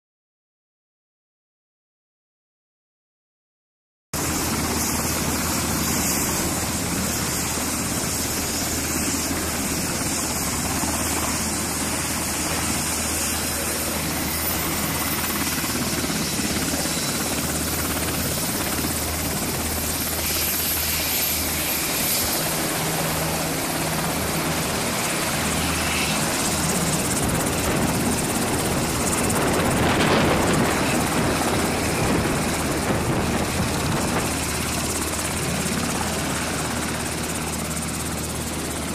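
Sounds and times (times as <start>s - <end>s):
helicopter engines whining: 4.2s - 38.9s
helicopter rotor beating: 4.2s - 38.9s.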